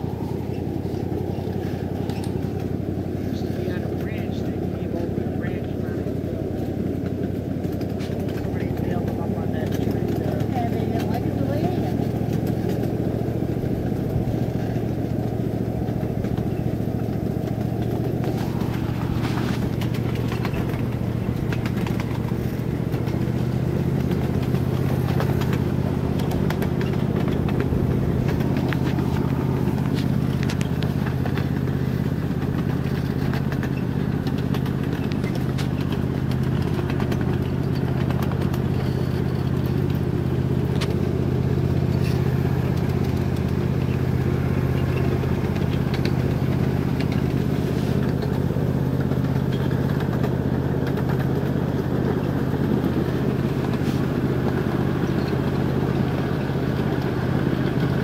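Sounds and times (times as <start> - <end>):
running gear clicks and rattles: 0.0 - 3.4, 6.3 - 58.0
miniature train engine running: 0.0 - 58.0.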